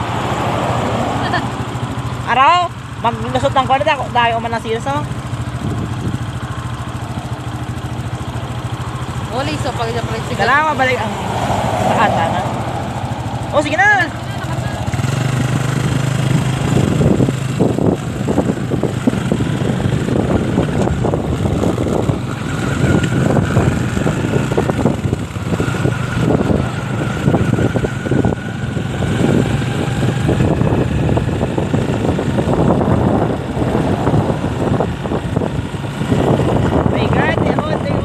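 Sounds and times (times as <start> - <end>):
motorcycle engine running: 0.0 - 38.0
rough road noise: 0.0 - 38.0.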